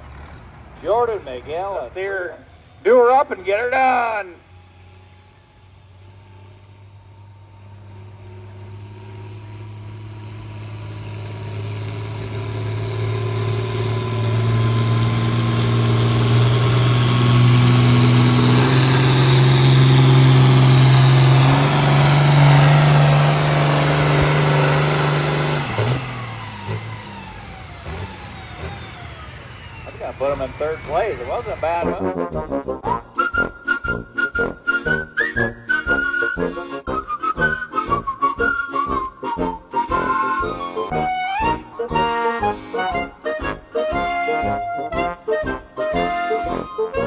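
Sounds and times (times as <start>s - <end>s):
vehicle engine at full power: 0.0s - 2.8s, 3.6s - 47.0s
high engine whine: 0.0s - 47.0s.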